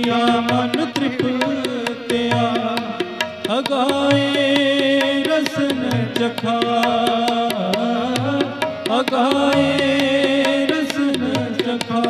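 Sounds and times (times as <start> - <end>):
harmonium chords: 0.0 - 12.0
tabla strokes: 0.0 - 12.0.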